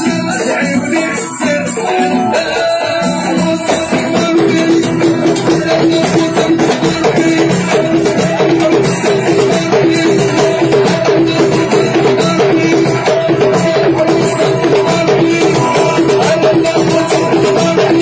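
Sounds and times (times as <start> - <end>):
hand percussion and rattling: 0.0 - 18.0.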